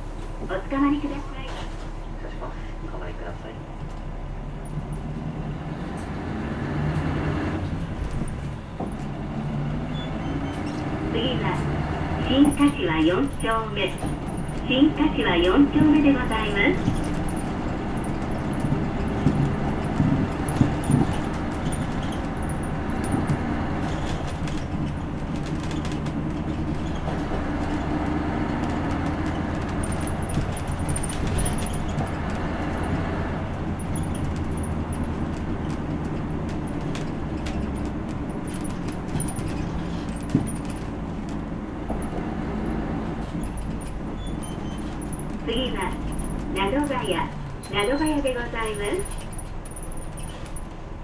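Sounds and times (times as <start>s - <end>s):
bus diesel engine: 0.0s - 51.0s
light rattles: 10.0s - 51.0s.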